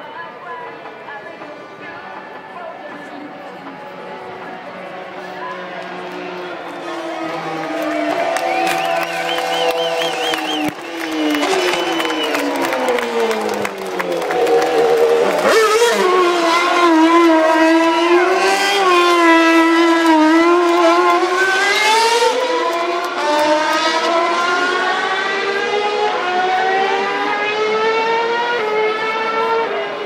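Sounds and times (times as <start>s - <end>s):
racing car engine at high revs: 3.7s - 30.0s.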